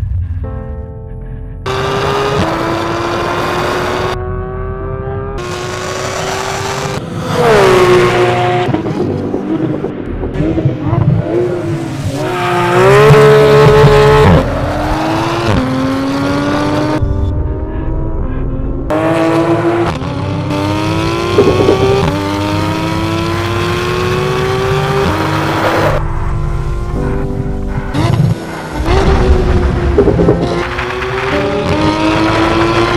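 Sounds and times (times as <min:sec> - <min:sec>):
sports car engine revving: 0:01.6 - 0:17.2, 0:18.9 - 0:32.9.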